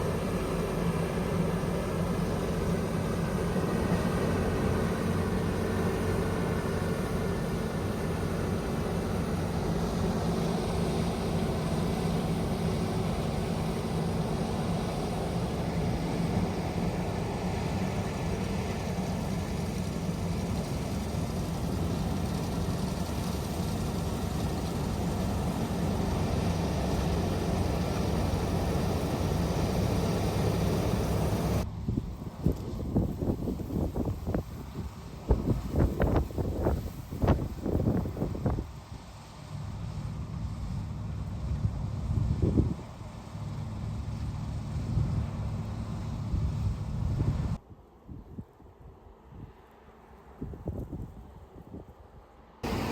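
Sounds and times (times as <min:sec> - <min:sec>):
heavy farm machinery engine: 0:00.0 - 0:47.6, 0:52.4 - 0:52.9.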